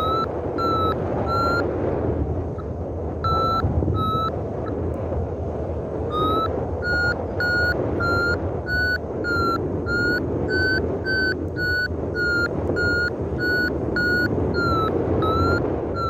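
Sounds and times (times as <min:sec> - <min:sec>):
variometer beeping: 0:00.0 - 0:04.9, 0:06.0 - 0:16.0
wind on microphone: 0:00.0 - 0:16.0.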